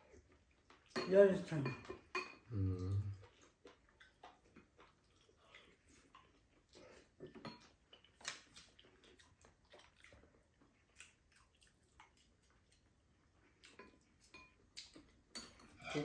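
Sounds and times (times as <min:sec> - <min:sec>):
person chewing and smacking: 0:00.0 - 0:01.0, 0:02.3 - 0:15.6.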